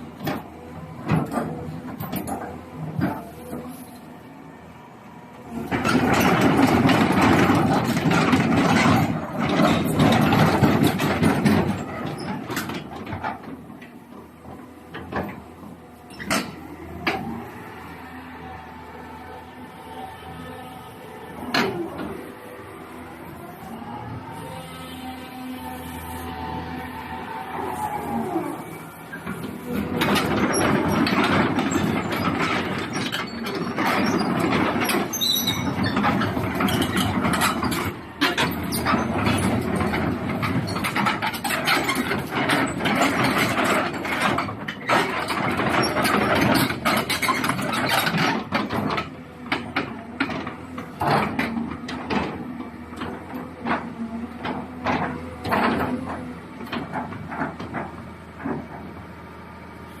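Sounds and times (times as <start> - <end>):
diesel excavator engine: 0.0 - 60.0.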